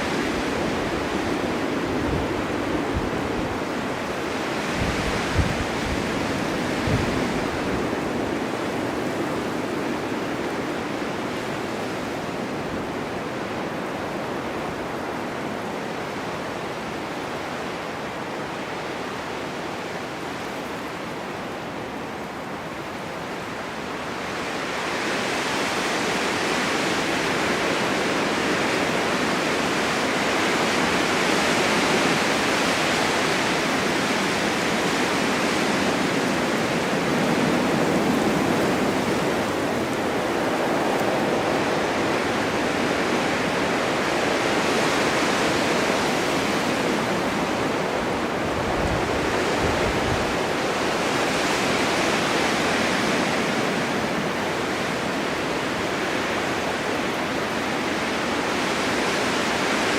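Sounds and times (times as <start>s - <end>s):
blizzard wind gusting: 0.0s - 59.9s.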